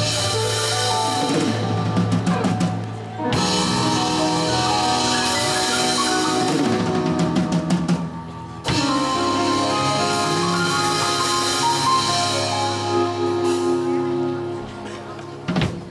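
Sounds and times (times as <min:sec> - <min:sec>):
live band playing: 0:00.0 - 0:15.9.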